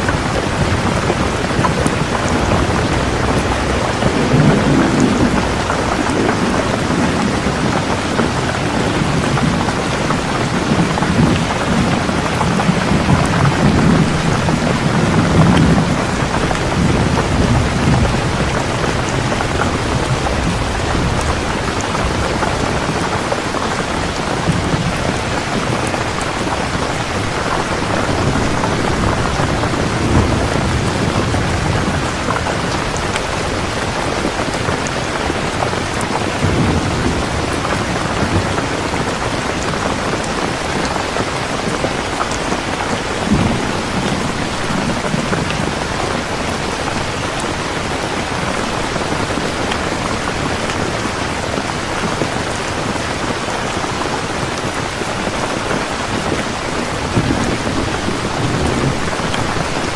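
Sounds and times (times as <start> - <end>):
heavy rain falling: 0.0 - 59.9
low thunder rumbling: 0.0 - 59.9.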